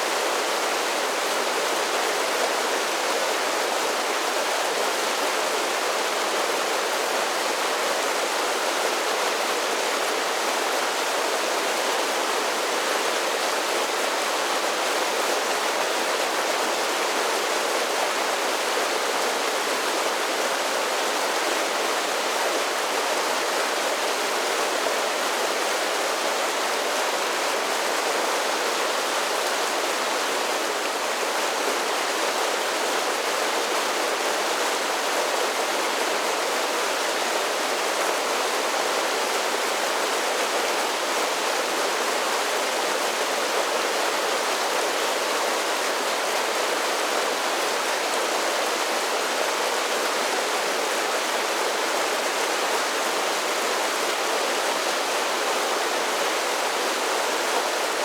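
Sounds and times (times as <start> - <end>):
creek rushing over small falls: 0.0 - 58.0.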